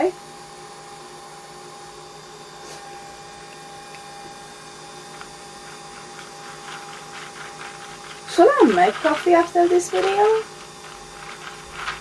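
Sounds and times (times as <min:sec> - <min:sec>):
coffee machine humming: 0:00.0 - 0:12.0.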